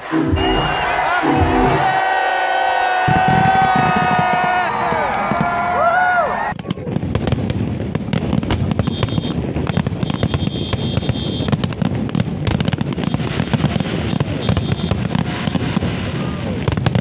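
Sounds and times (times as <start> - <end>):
fireworks bangs and crackles: 3.0 - 17.0.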